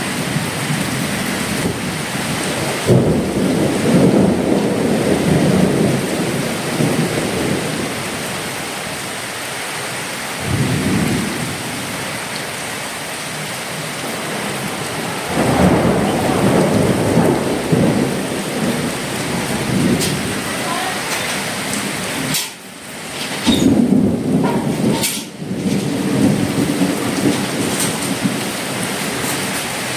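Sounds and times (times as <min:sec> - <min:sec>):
heavy rain hissing: 0:00.0 - 0:29.9.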